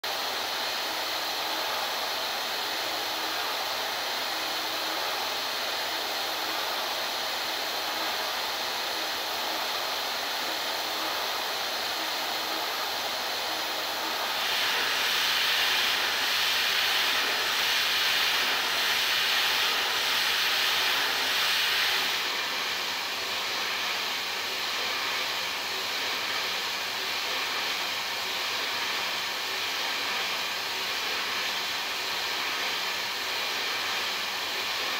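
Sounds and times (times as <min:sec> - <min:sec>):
milling machine cutting steel: 0:00.1 - 0:34.9.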